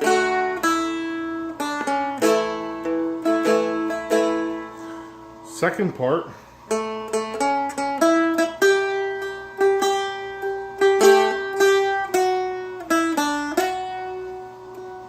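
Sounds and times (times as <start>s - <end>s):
flatpicked acoustic dulcimer melody: 0.0s - 5.5s, 6.4s - 15.0s.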